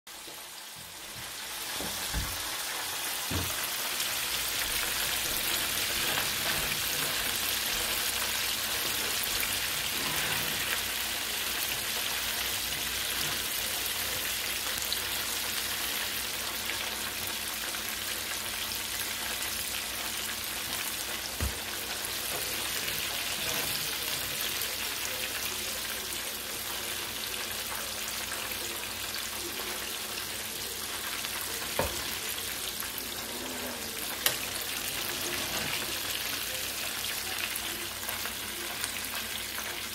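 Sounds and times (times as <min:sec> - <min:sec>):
food deep-frying in hot oil: 0:00.1 - 0:39.9.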